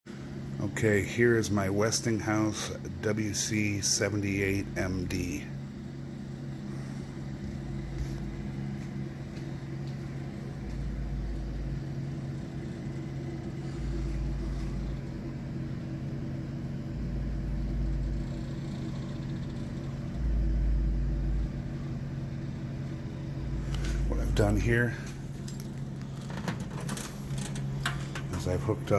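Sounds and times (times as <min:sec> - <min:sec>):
vending machine electrical hum: 0:00.1 - 0:28.9.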